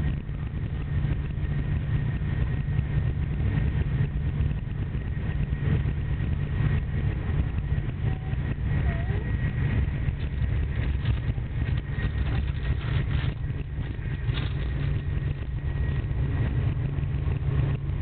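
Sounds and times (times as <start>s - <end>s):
train rumble from inside: 0.0s - 18.0s.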